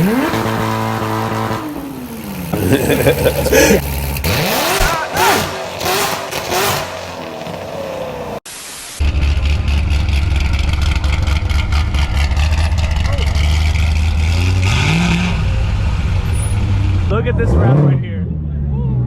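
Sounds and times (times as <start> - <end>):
car engine revving: 0.0 - 8.4, 9.0 - 19.0.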